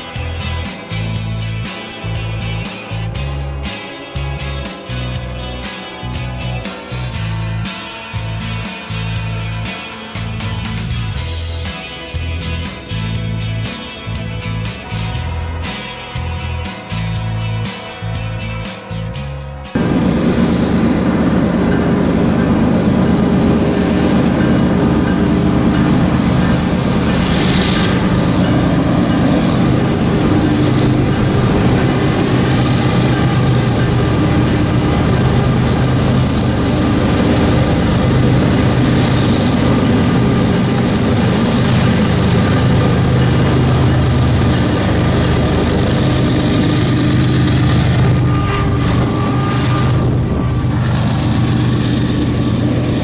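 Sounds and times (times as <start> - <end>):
diesel locomotive engines droning: 0.0 - 53.0.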